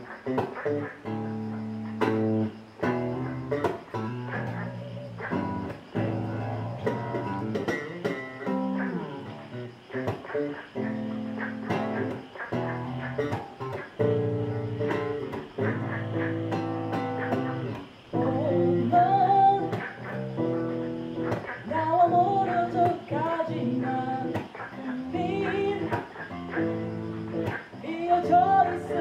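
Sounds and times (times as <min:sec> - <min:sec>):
electric bass guitar playing: 0:00.0 - 0:29.0.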